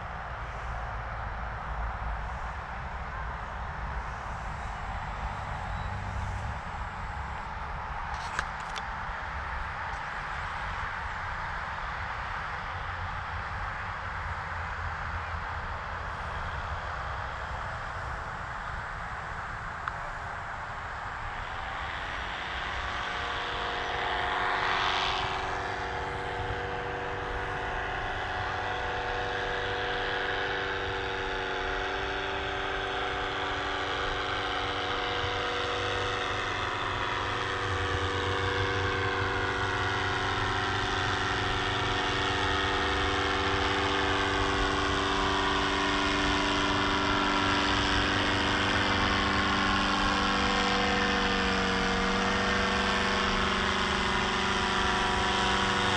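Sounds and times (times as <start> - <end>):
paraglider engine droning overhead: 0.0 - 55.9.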